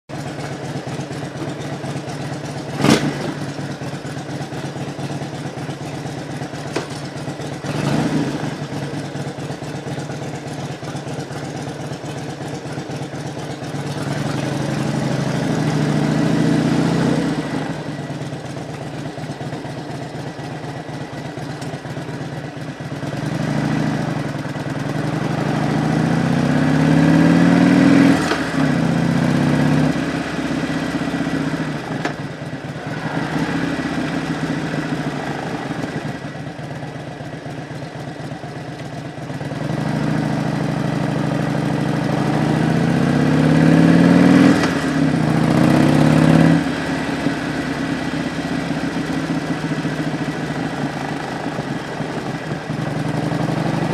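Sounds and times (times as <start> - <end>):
motorcycle accelerating: 0.1 - 53.9
motorcycle engine idling: 0.1 - 53.9.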